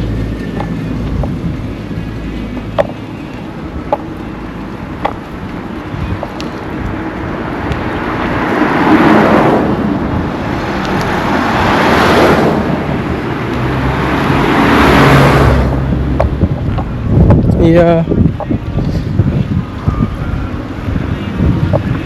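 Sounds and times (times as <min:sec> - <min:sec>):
low engine hum: 0:00.0 - 0:22.0
road vehicles passing: 0:00.0 - 0:22.0.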